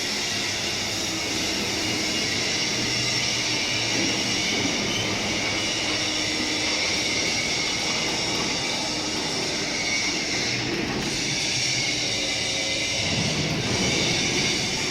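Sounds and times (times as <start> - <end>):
machinery hiss: 0.0 - 14.9.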